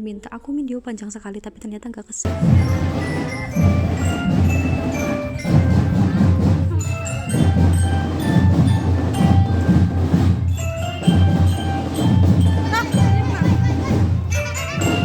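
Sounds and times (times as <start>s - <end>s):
marching glockenspiel melody: 2.3s - 15.0s
pounding marching drums: 2.3s - 15.0s.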